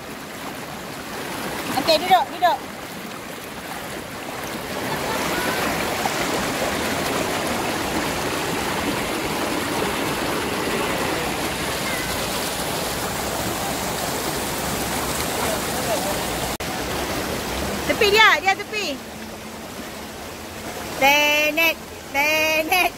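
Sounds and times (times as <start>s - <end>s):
river water rushing over rocks: 0.0s - 22.9s.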